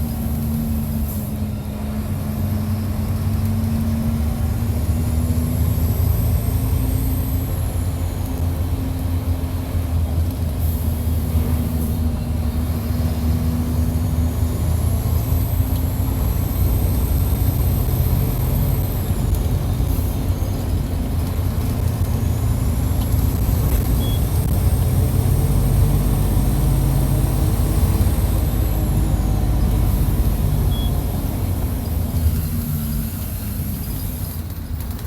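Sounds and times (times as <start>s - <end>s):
diesel engine running at high revs: 0.0s - 35.0s
high engine whine: 0.0s - 35.0s.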